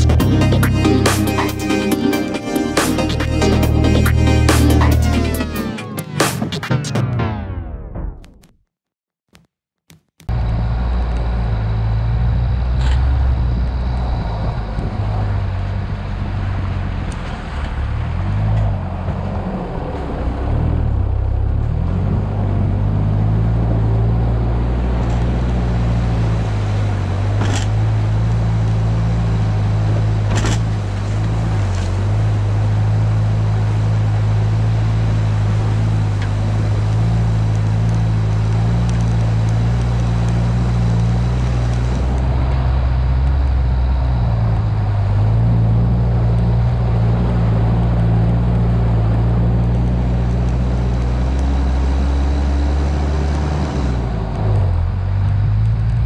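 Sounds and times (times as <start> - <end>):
rumble of tyres on track: 0.0 - 6.2, 10.2 - 56.0
car engine droning: 0.0 - 6.5, 10.2 - 56.0.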